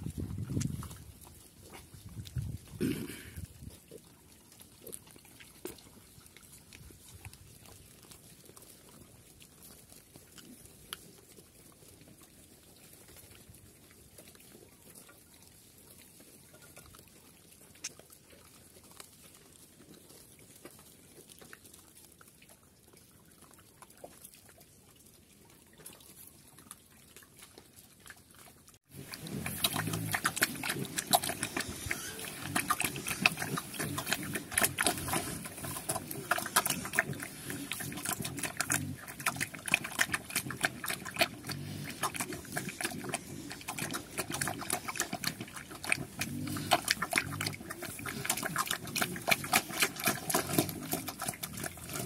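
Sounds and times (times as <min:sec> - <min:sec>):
piglets rooting in dirt: 0:00.0 - 0:52.0
sow chewing and smacking: 0:00.0 - 0:52.0.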